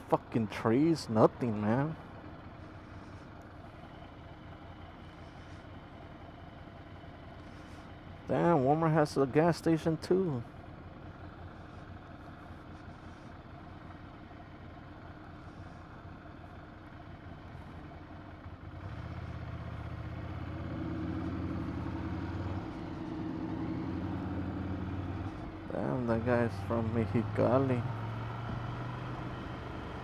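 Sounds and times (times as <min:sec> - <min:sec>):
motorcycle engine running: 0:00.0 - 0:08.8, 0:10.1 - 0:30.0.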